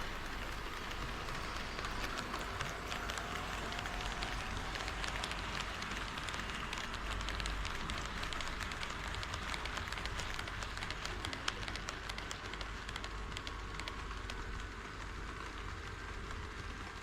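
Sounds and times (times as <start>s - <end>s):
model train rolling rumble: 0.0s - 17.0s
wheels clicking on track: 0.0s - 17.0s.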